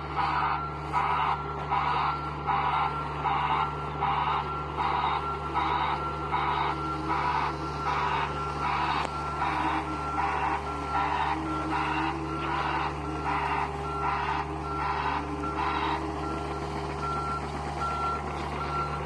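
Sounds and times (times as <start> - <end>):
diesel engine drone: 0.0 - 19.0
excavator travel alarm beeping: 0.0 - 19.0.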